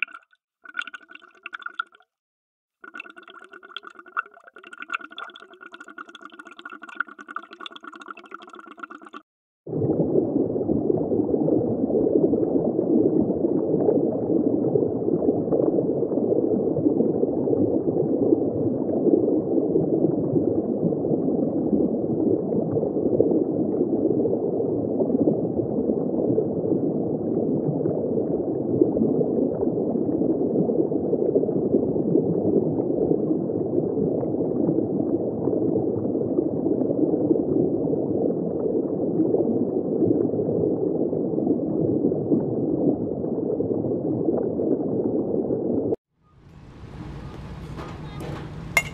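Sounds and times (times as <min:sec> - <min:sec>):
underwater water wash: 0:00.0 - 0:02.0, 0:02.8 - 0:46.0.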